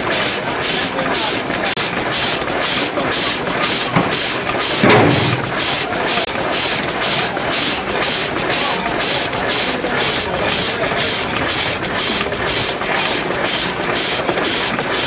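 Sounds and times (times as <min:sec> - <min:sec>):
steam engine exhaust puffing: 0:00.0 - 0:15.0.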